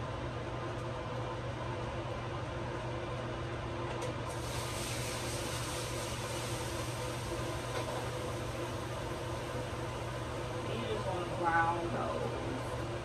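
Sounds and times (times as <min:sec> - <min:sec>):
vent fan whooshing with low hum: 0:00.0 - 0:13.0.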